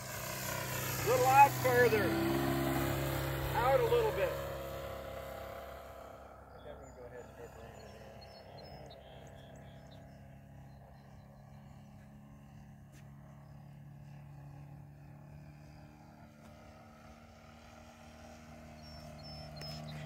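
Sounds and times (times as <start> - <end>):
model airplane engine drone: 0.0 - 20.0.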